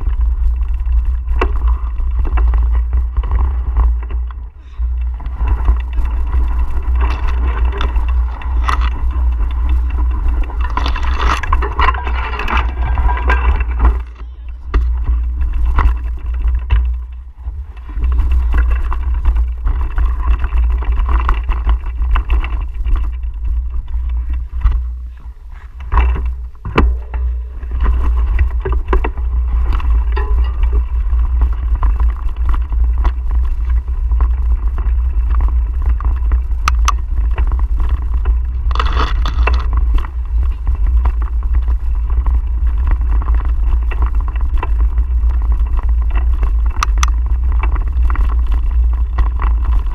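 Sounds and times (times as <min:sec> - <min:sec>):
bike rattles and knocks: 0:00.0 - 0:49.9
wind buffeting microphone: 0:00.0 - 0:49.9.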